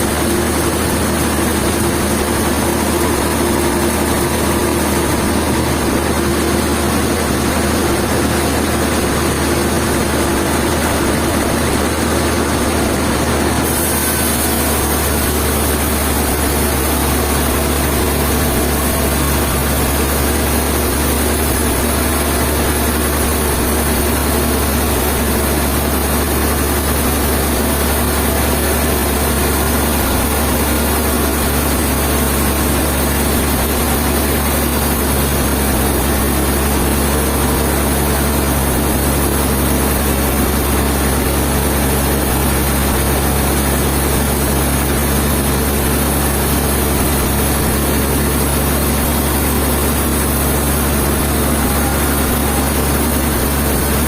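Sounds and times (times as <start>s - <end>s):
heavy engine humming: 0.0s - 54.0s.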